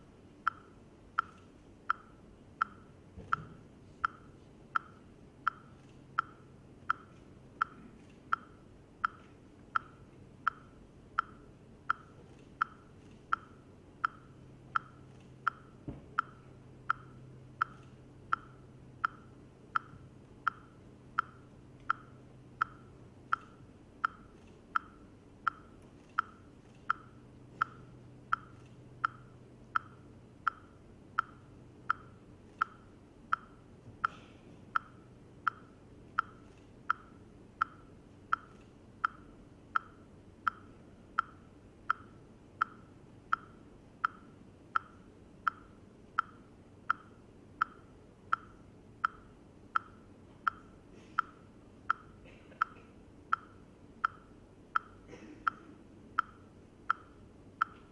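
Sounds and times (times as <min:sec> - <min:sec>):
metronome-like ticking: 0:00.4 - 0:57.9.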